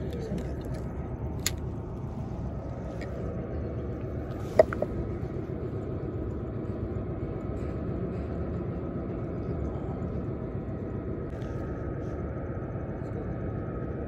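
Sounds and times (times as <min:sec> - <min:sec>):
low rumble of wind: 0:00.0 - 0:14.0.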